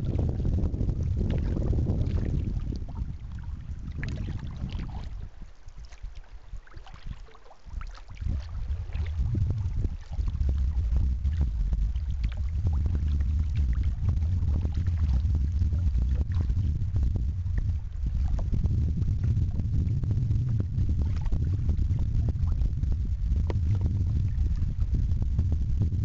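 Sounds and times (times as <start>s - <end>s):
river water splashing on a hull: 0.0s - 19.3s, 20.9s - 22.7s
wind buffeting the microphone: 0.0s - 26.0s.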